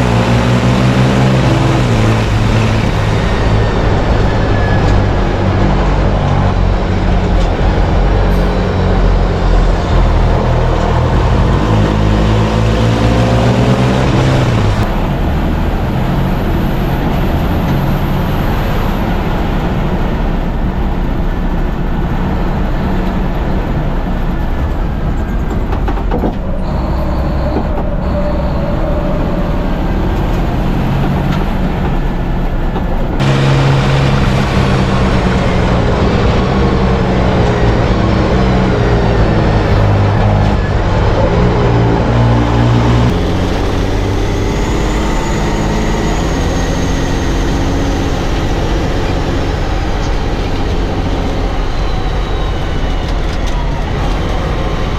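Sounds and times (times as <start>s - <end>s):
racing truck engine accelerating: 0.0s - 54.9s
road noise: 0.0s - 54.9s.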